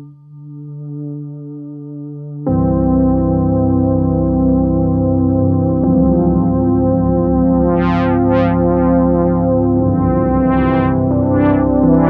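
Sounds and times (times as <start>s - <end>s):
synthesizer chord with filter sweeps: 0.0s - 12.0s.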